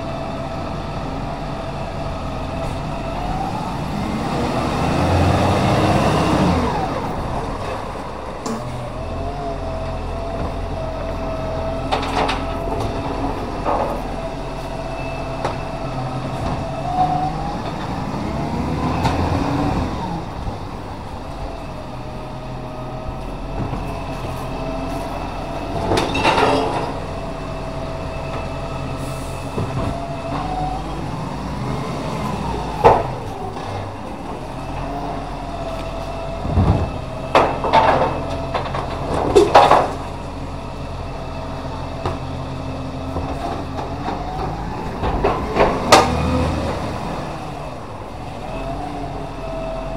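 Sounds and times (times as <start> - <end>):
garbage truck engine revving: 0.0 - 49.9.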